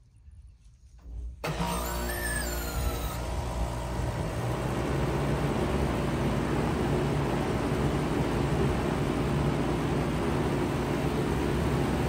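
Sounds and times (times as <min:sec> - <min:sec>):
heat pump humming: 0:01.4 - 0:12.0.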